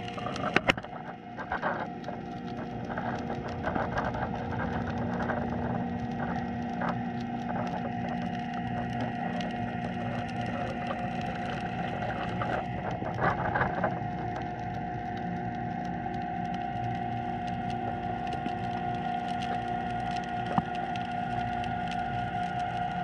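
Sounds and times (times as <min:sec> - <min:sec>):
dense crackling clicks underwater: 0:00.0 - 0:23.0
steady underwater hum: 0:00.0 - 0:23.0.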